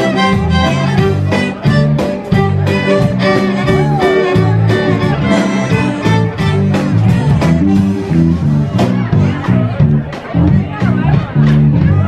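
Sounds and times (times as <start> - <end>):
bass: 0.0 - 12.0
fiddle playing dance tune: 0.0 - 12.0
quick drum beat: 0.0 - 12.0.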